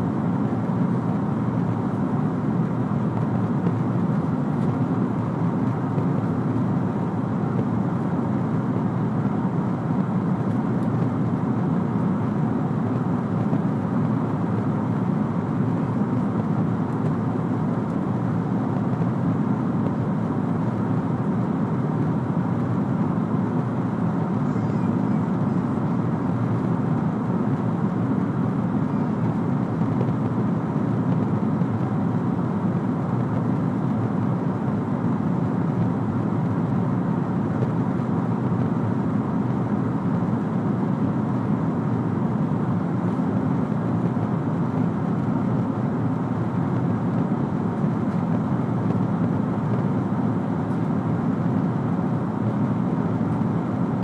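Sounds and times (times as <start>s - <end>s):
jet engine rumble: 0.0s - 54.0s.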